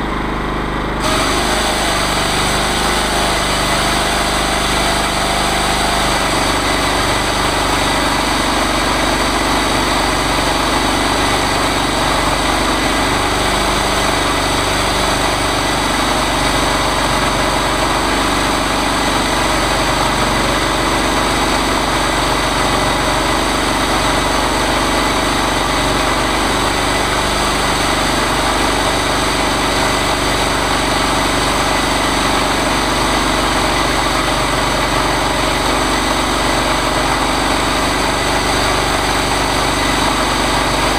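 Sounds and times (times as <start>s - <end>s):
chainsaw mill engine running: 0.0s - 40.9s.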